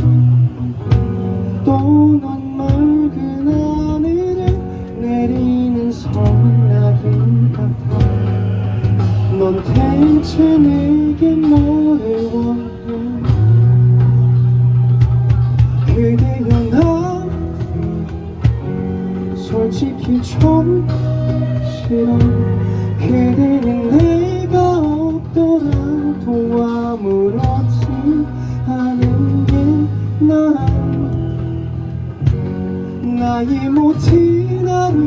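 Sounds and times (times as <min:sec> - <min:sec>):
acoustic guitar: 0:00.0 - 0:35.0
bass guitar: 0:00.0 - 0:35.0
cajon: 0:00.0 - 0:35.0
gliding lead melody: 0:00.0 - 0:35.0.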